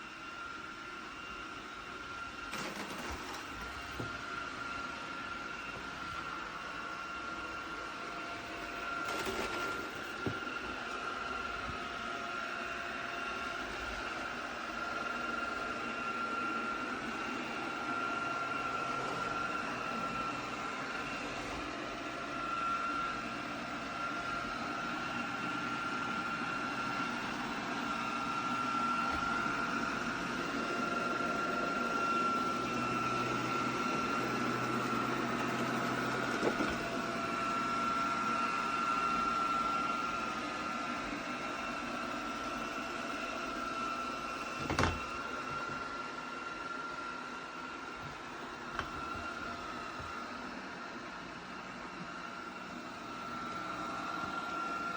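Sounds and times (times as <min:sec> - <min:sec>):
robot vacuum whirring: 0:00.1 - 0:54.9.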